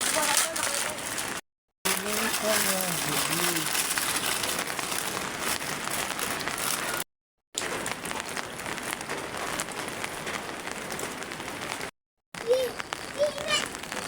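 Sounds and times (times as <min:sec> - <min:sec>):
heavy rain falling: 0:00.0 - 0:07.0, 0:07.6 - 0:14.0.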